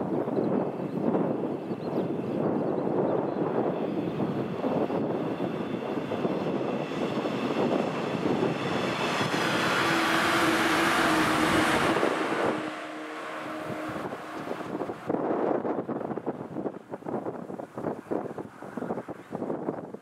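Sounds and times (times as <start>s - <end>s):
electric train passing: 0.0s - 19.7s.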